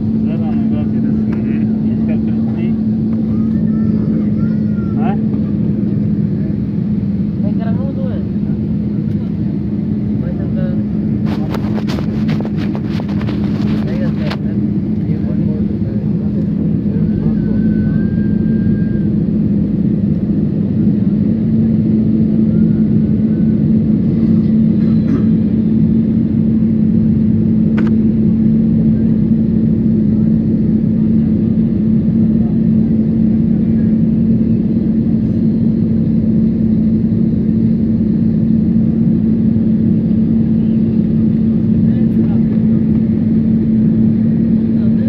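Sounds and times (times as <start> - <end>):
airliner engines droning in cabin: 0.0 - 45.0.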